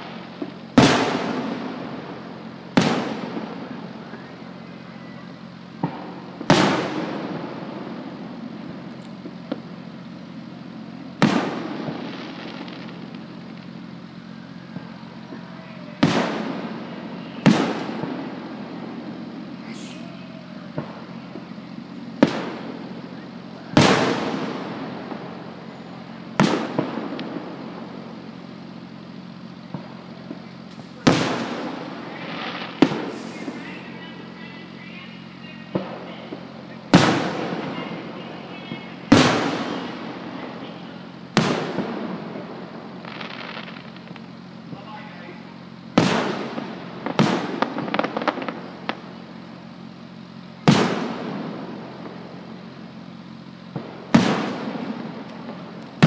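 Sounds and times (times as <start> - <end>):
firework booms echoing: 0.0 - 28.9, 29.6 - 34.4, 35.5 - 44.8, 45.9 - 49.1, 50.6 - 52.4, 53.7 - 56.0.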